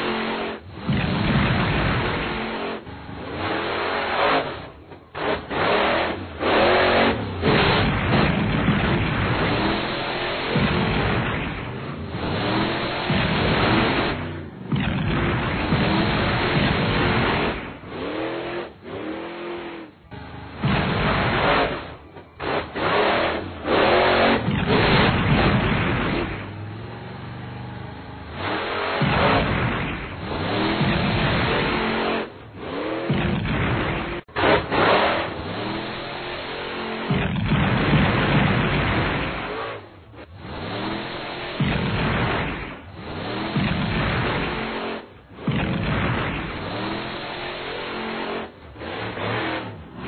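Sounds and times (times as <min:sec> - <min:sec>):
cartoon truck crash: 0:00.0 - 0:50.0
cartoon truck engine revving: 0:00.0 - 0:50.0.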